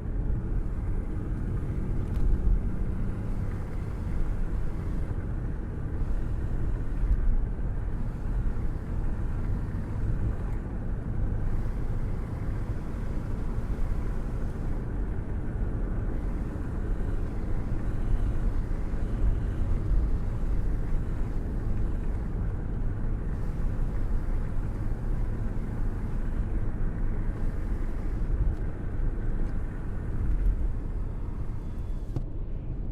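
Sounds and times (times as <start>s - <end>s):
road rumble from car: 0.0s - 32.9s.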